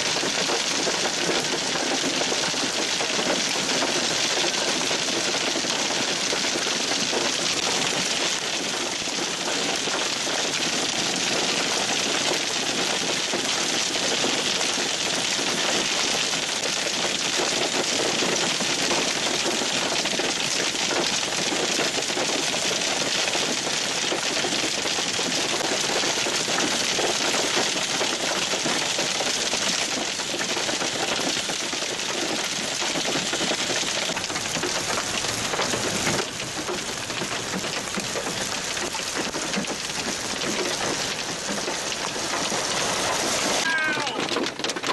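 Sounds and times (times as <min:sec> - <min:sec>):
heavy hail clattering: 0:00.0 - 0:44.9.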